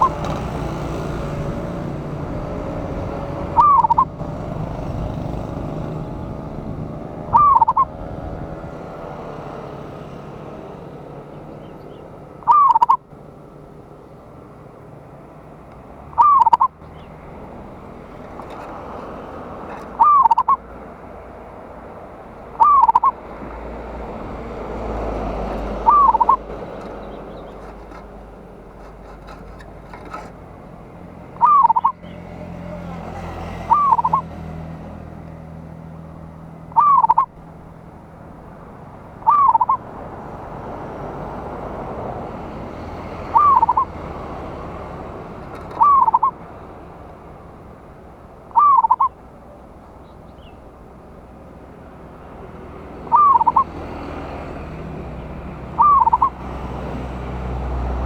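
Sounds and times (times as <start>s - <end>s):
dove calling: 0.0s - 57.0s.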